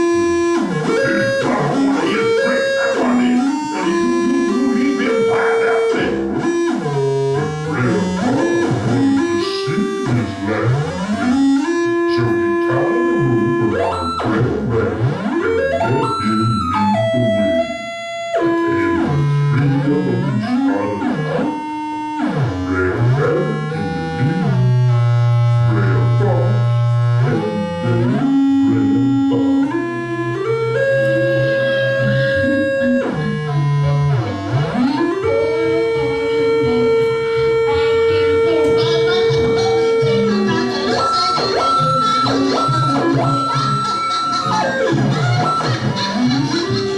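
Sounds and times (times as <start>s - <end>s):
synthesizer tones: 0.0s - 46.9s.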